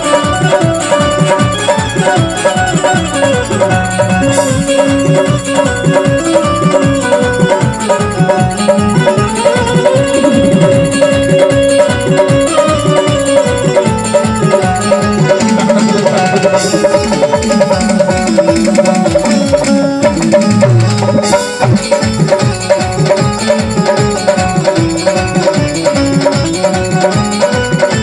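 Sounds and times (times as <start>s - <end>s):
fast plucked banjo melody: 0.0s - 28.0s
keyboard: 0.0s - 28.0s
steady drum beat: 0.0s - 28.0s.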